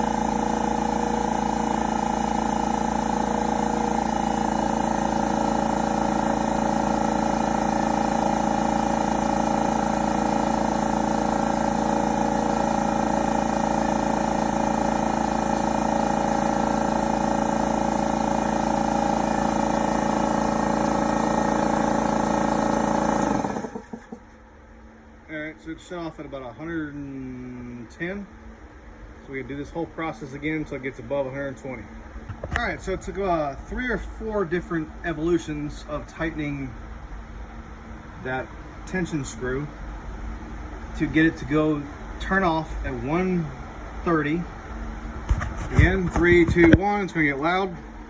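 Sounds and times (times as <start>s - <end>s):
air compressor running: 0.0s - 24.5s, 31.9s - 48.0s.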